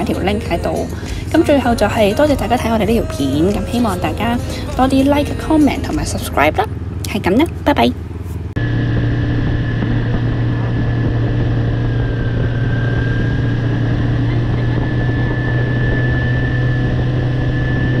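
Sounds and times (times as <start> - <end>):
motorcycle engine droning: 0.0 - 18.0
thin steady whine: 0.0 - 18.0.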